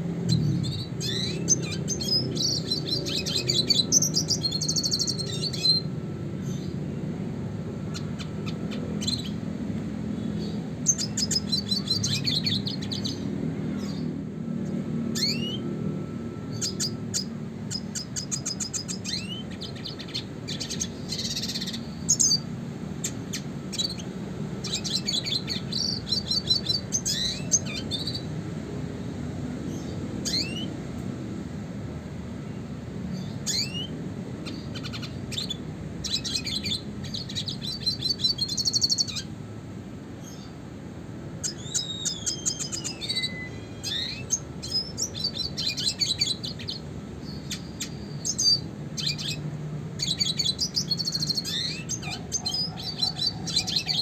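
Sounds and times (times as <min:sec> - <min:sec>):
bird singing twittering trills: 0:00.0 - 0:31.6, 0:32.5 - 0:39.4, 0:40.2 - 0:54.0.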